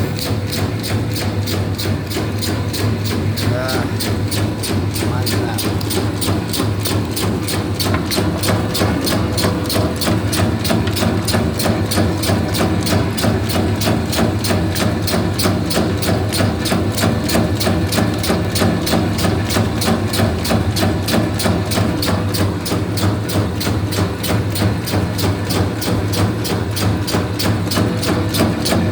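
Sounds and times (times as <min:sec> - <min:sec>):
fast mechanical clicking: 0:00.0 - 0:28.9
motor hum: 0:00.0 - 0:28.9.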